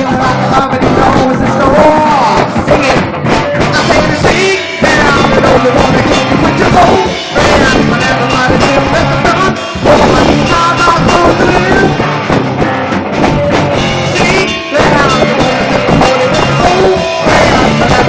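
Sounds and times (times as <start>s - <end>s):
drum kit beat: 0.0s - 18.0s
live rock band playing: 0.0s - 18.0s
sliding lead guitar lines: 0.0s - 18.0s.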